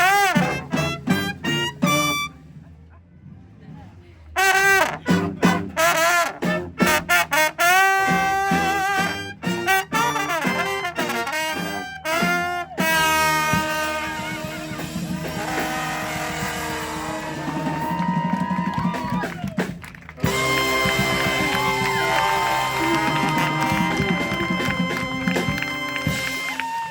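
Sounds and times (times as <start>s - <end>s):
brass band playing: 0.0s - 2.8s, 4.3s - 26.9s.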